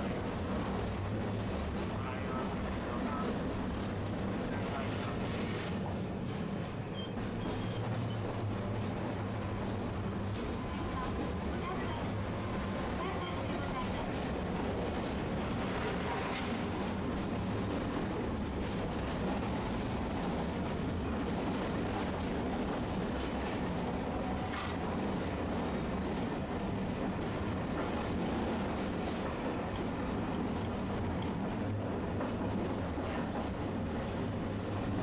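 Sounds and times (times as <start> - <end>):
streetcar motors and wheels rumbling: 0.0 - 35.0.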